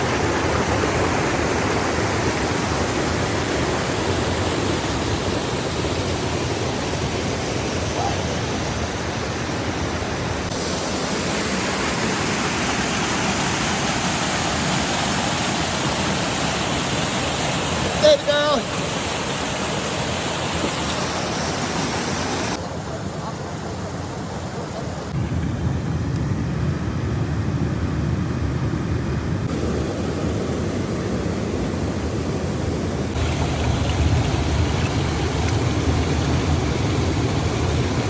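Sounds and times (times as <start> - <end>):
water rushing over rocks: 0.0 - 22.7, 29.5 - 38.0.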